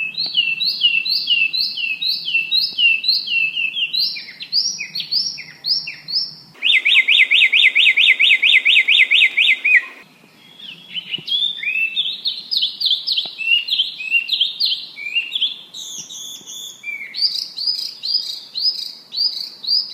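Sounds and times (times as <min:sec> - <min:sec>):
songbirds singing: 0:00.0 - 0:19.9.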